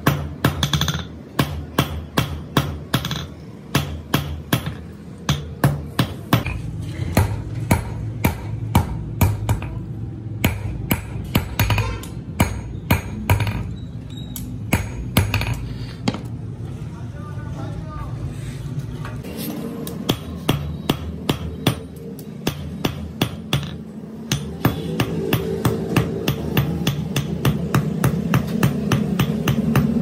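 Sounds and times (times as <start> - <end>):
hammer striking steel on anvil: 0.0 - 13.7, 14.6 - 15.7, 19.8 - 30.0.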